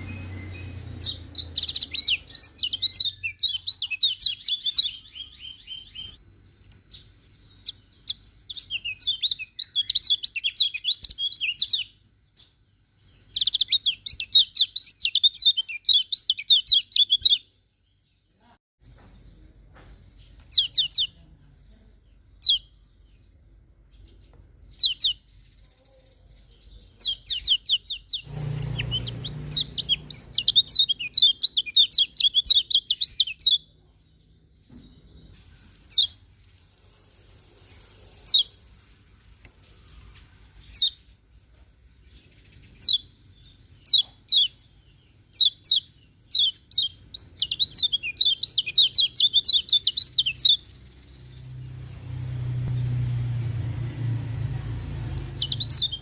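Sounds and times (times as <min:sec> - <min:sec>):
bird chirping and twittering: 0:00.0 - 0:36.4, 0:37.6 - 0:39.0, 0:39.6 - 0:41.2, 0:41.8 - 0:56.0.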